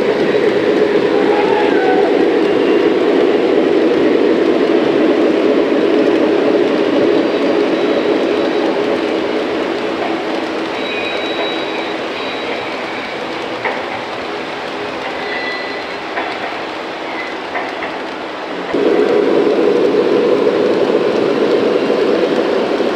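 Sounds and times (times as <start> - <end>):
model train wheels rumbling on rail: 0.0 - 22.9.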